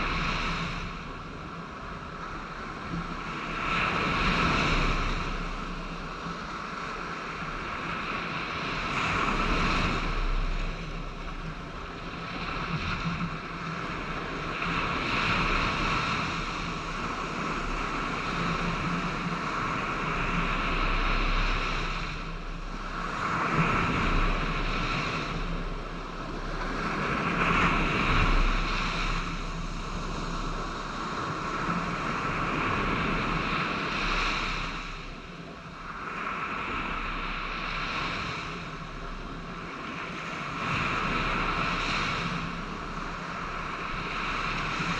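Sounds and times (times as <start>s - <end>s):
waves washing on beach: 0.0s - 44.9s
wind buffeting microphone: 0.0s - 44.9s.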